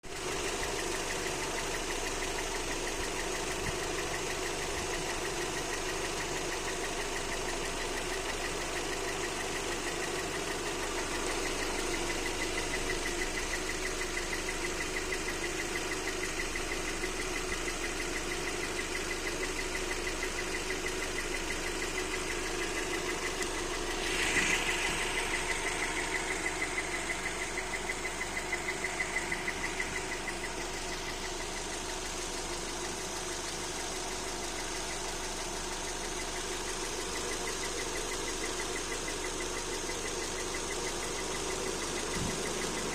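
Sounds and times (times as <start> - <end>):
car engine idling: 0.0 - 42.9
fast even engine ticking: 0.1 - 42.9.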